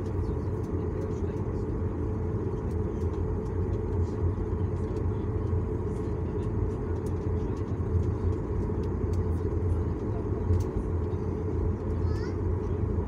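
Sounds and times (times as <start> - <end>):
jet engines idling in cabin: 0.0 - 13.0.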